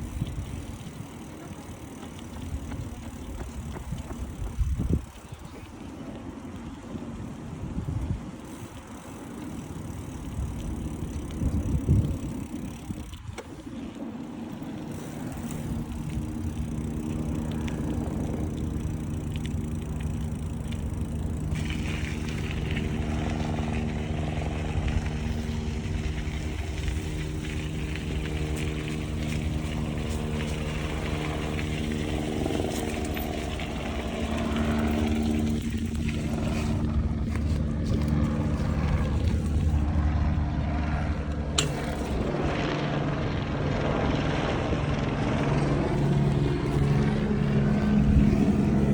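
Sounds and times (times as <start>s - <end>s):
steady engine hum: 0.0s - 48.9s
wind buffeting microphone: 0.0s - 48.9s.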